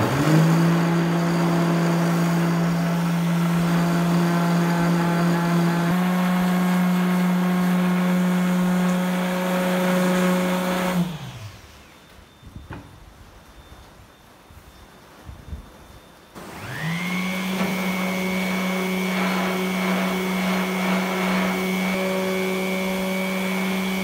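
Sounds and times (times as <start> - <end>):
electric sander humming: 0.0 - 11.8, 16.4 - 24.0.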